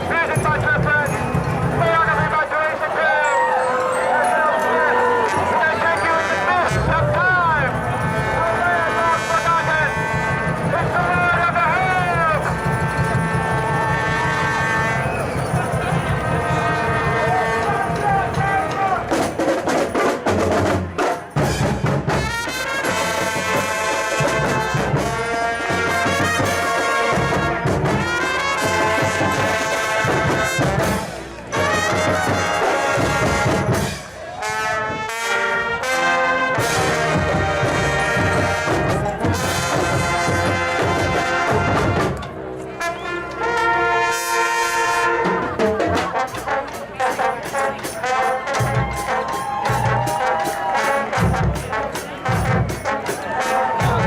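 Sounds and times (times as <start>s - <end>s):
marching band playing brass: 0.0s - 54.0s.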